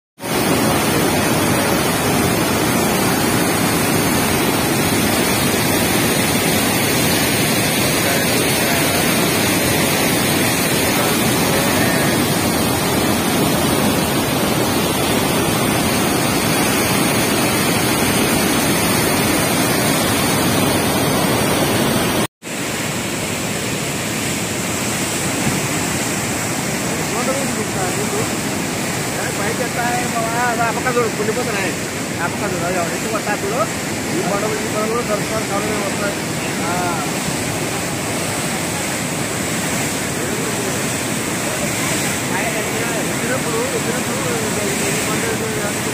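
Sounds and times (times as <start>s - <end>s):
water rushing through spillway: 0.2s - 45.9s.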